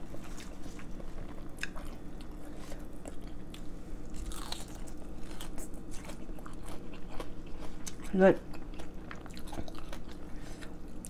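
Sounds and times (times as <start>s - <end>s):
person chewing food: 0.1s - 11.0s.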